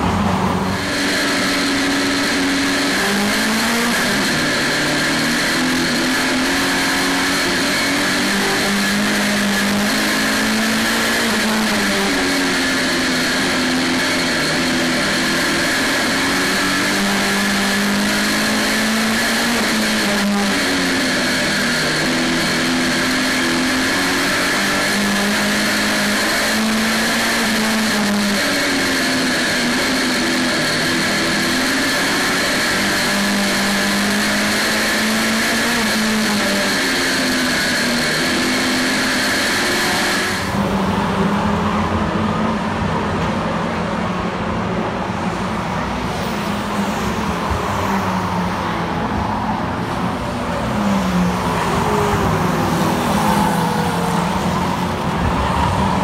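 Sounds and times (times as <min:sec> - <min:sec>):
race car engine revving: 0:00.0 - 0:56.0
road and chassis noise: 0:00.0 - 0:56.0.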